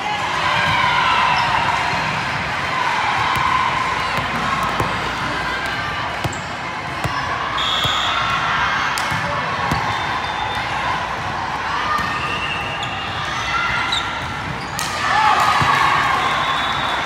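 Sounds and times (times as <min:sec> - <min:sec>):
murmur of spectators: 0:00.0 - 0:17.0.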